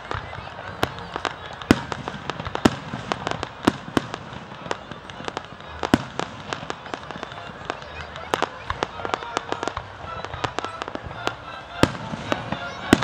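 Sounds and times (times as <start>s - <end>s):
loud firework booms: 0.0s - 11.2s
fireworks bangs and pops: 0.0s - 13.0s.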